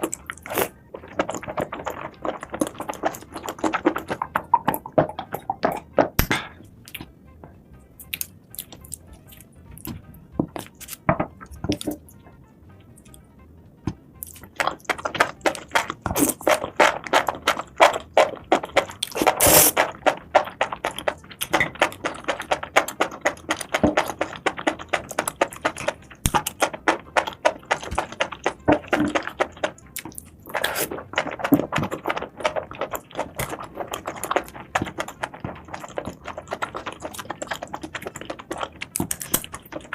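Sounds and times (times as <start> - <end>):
crunching and chewing seafood: 0.0 - 7.1, 8.0 - 12.1, 14.2 - 39.9
background music: 0.0 - 39.9.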